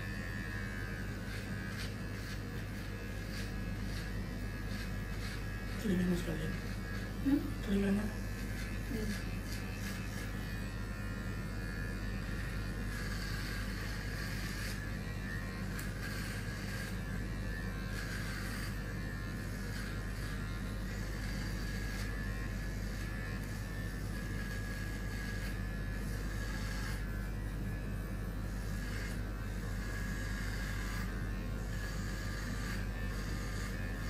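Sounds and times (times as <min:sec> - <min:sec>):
electric hair clippers buzzing: 0:00.0 - 0:34.0.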